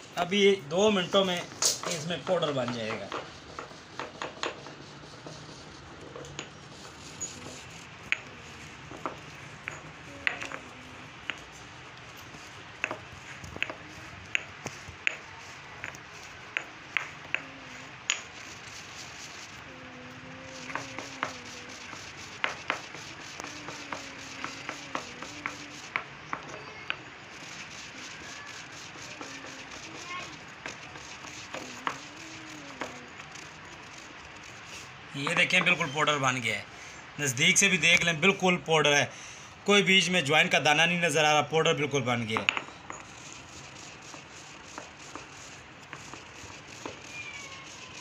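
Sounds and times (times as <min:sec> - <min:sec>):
stone pestle grinding in mortar: 0:01.3 - 0:26.4, 0:27.3 - 0:35.9, 0:42.3 - 0:48.0.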